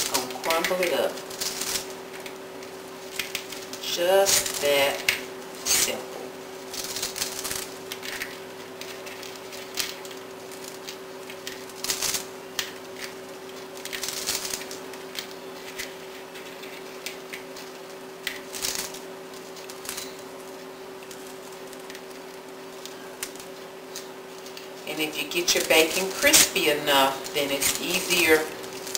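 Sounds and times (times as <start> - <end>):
crispy bacon crumbling crackles: 0.0 - 28.9.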